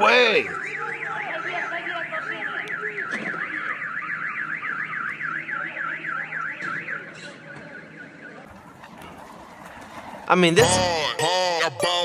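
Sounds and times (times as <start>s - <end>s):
car alarm siren warbling: 0.0s - 11.9s.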